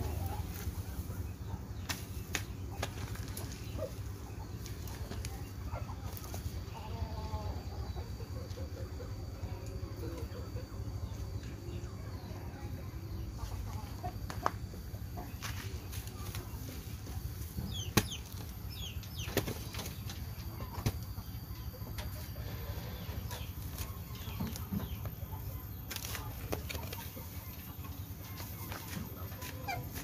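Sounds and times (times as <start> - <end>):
bird chirps and clucks: 0.0 - 30.0.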